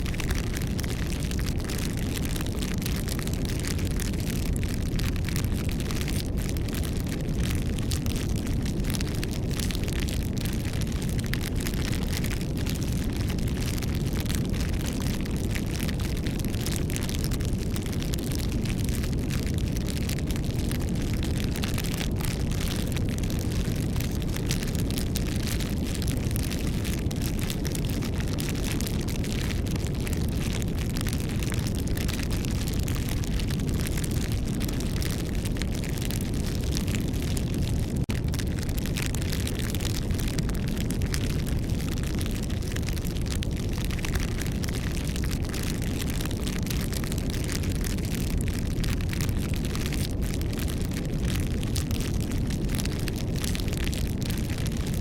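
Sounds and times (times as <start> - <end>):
campfire crackling and popping: 0.0 - 55.0
flames burning: 0.0 - 55.0.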